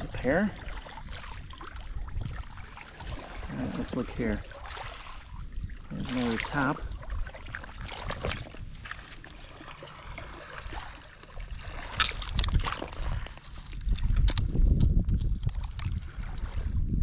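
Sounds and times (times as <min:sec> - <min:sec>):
water trickling on beach: 0:00.0 - 0:16.8.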